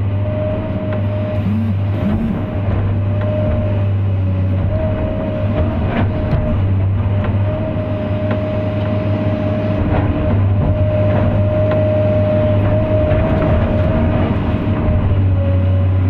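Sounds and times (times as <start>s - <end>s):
steady whine: 0.0s - 14.2s
diesel engine running: 0.0s - 16.0s.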